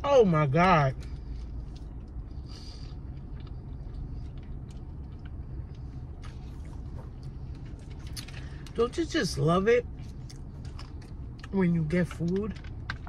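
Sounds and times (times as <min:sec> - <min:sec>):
low hum inside a car: 0:00.0 - 0:13.0
person chewing crunchy food: 0:00.3 - 0:08.8, 0:09.8 - 0:13.0.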